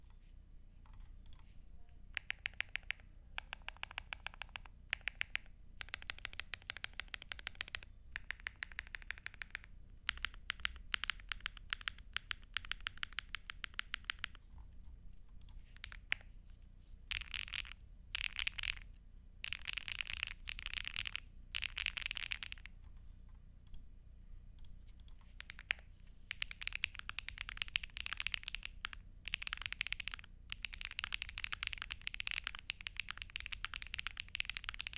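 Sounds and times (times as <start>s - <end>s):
mechanical keyboard typing: 2.1s - 14.4s, 15.4s - 16.3s, 17.1s - 23.0s, 24.6s - 34.9s.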